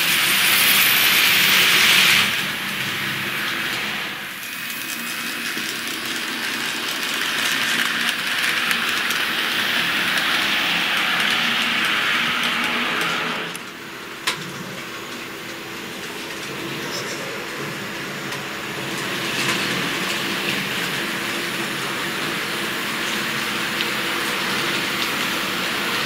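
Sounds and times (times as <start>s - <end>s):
model train wheels on rail: 0.0s - 26.0s.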